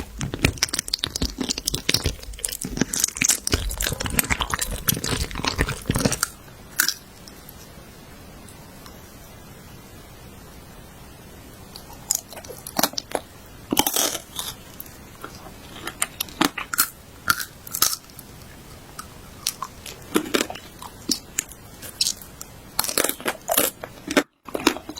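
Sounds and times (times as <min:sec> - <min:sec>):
crisp food being chewed: 0:00.0 - 0:07.4, 0:11.8 - 0:24.9
steady background hiss: 0:00.0 - 0:24.9.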